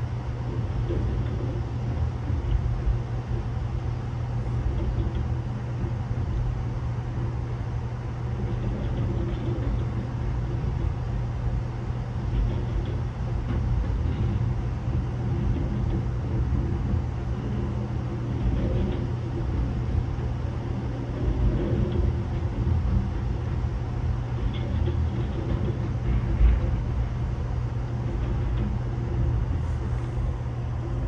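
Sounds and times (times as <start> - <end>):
freight train rumbling on rails: 0.0 - 31.0.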